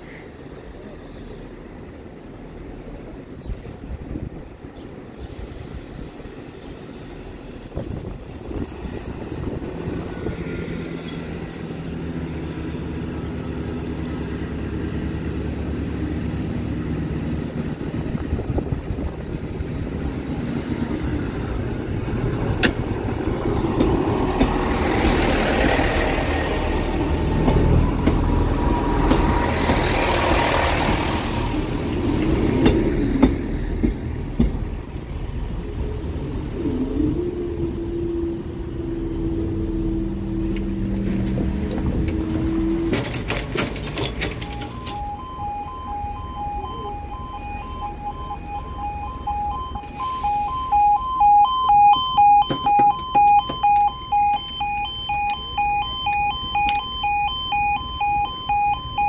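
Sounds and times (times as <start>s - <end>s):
wheels rumbling and rattling on rail: 0.0s - 59.0s
diesel engines humming: 5.1s - 59.0s.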